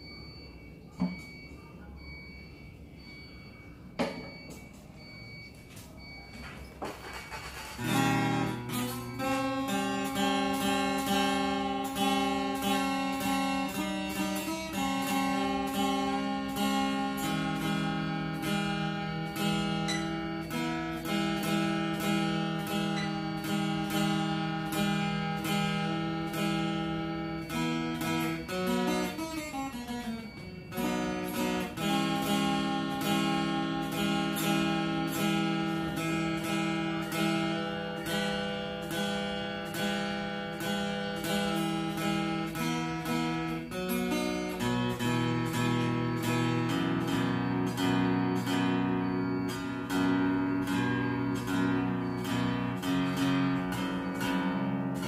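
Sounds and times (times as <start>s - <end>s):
acoustic guitar strumming: 6.4s - 55.0s.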